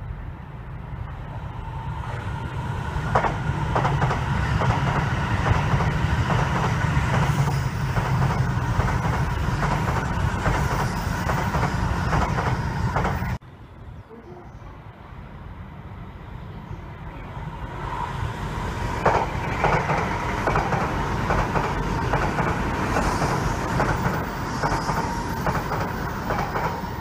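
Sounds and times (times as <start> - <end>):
train rumble passing: 0.0 - 27.0.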